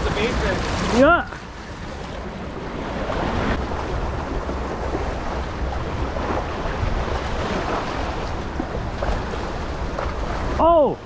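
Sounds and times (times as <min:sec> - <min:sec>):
water rushing from outflow: 0:00.0 - 0:11.0
wind rumbling on microphone: 0:00.0 - 0:11.0.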